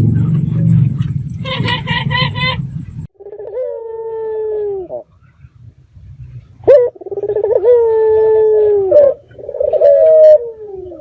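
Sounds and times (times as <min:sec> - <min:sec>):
dove cooing: 0:00.0 - 0:05.1, 0:06.6 - 0:11.0.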